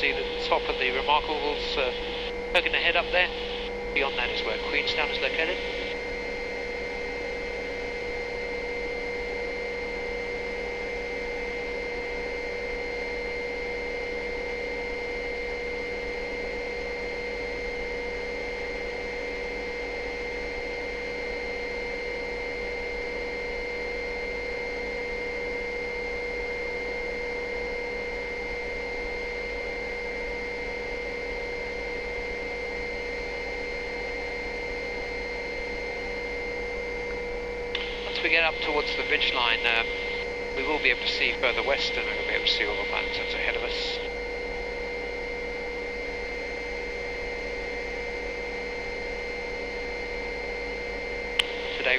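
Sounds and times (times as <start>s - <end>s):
helicopter drone with whine: 0.0s - 51.9s.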